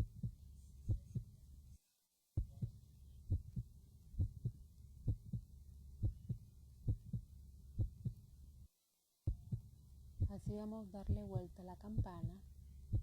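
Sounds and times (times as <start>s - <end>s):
heartbeat through stethoscope: 0.0s - 1.3s, 2.4s - 8.2s, 9.3s - 13.0s
low steady hum: 0.0s - 1.8s, 2.4s - 13.0s.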